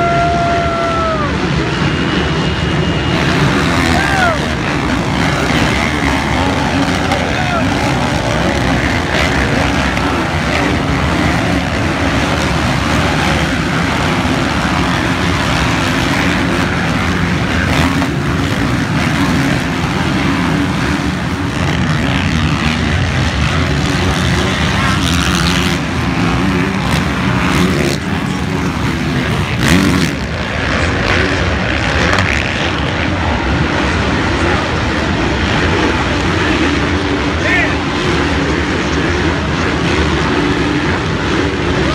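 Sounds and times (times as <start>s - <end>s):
motocross bikes racing: 0.0s - 41.9s.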